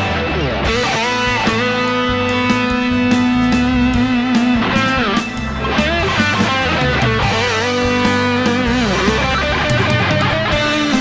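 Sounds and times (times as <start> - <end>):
overdriven electric guitar lead: 0.0 - 11.0
rock backing track with drums: 0.0 - 11.0.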